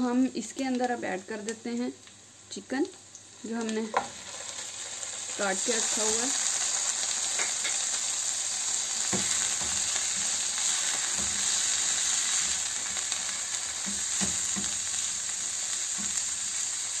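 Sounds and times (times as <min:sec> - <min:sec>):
chicken and onion sizzling in pan: 0:00.0 - 0:17.0.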